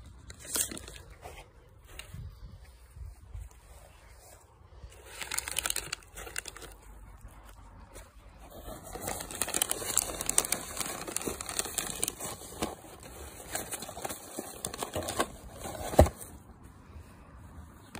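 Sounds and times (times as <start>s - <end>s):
paper and plastic crinkling: 0.0s - 2.2s, 3.4s - 16.5s.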